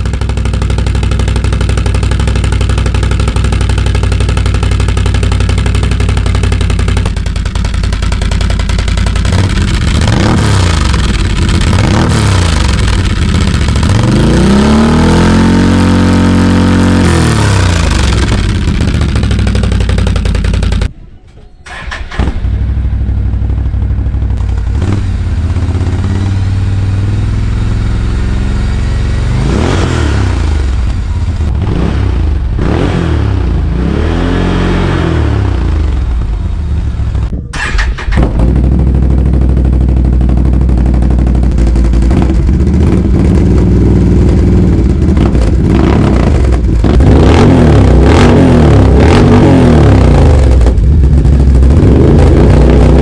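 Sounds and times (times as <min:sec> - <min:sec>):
atv engine idling and revving: 0:00.0 - 0:20.9, 0:21.8 - 0:53.0.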